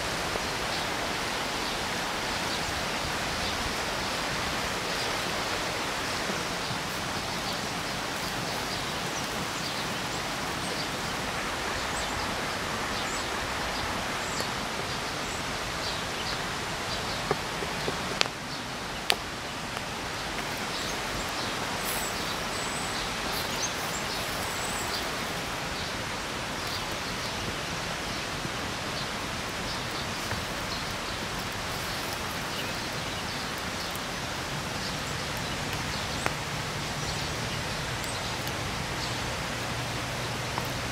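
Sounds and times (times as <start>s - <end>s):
campfire crackling: 0.0s - 40.9s
river water rushing: 0.0s - 40.9s.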